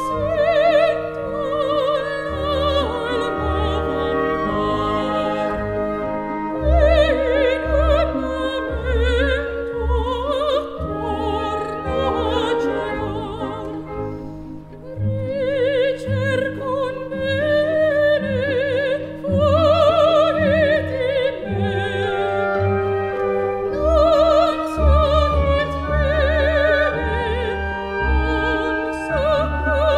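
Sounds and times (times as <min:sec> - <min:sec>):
instrumental accompaniment: 0:00.0 - 0:29.9
operatic singing: 0:00.0 - 0:29.9.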